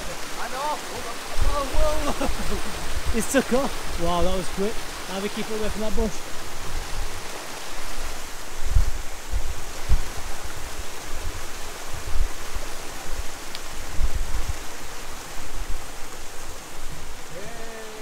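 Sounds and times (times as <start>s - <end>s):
water rushing over waterfall: 0.0s - 18.0s.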